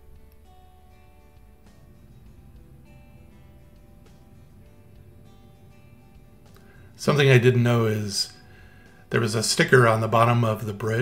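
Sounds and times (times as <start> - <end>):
quiet guitar music: 0.0 - 11.0.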